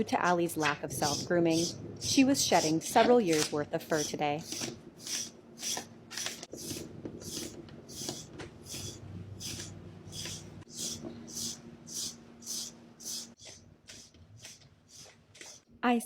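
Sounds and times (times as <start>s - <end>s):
brush raking through cat fur: 1.0s - 11.6s, 12.6s - 15.6s.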